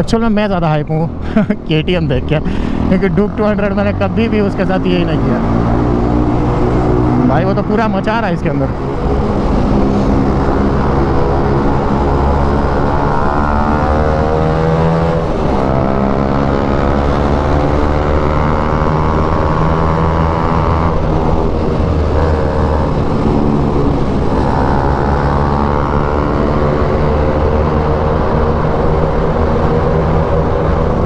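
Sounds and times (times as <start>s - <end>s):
motorcycle engine accelerating: 1.1s - 31.0s.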